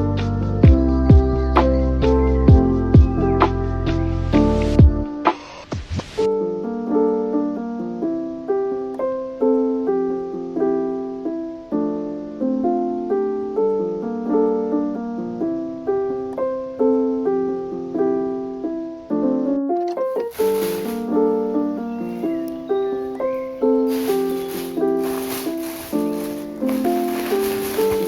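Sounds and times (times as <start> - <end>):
gentle piano music: 0.0 - 5.3, 6.3 - 28.0.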